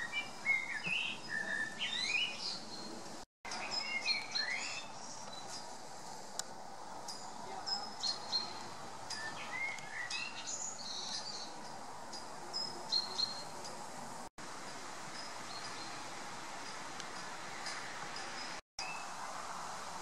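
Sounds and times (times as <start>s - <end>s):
small birds chirping: 0.0s - 5.8s, 7.0s - 14.3s, 15.1s - 19.1s
steady outdoor hiss: 0.0s - 20.0s.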